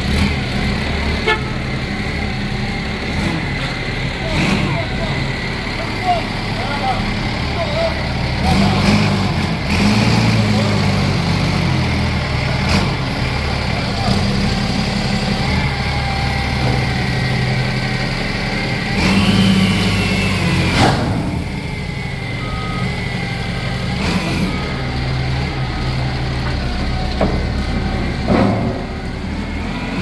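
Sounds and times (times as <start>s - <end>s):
large engine running: 0.0s - 30.0s.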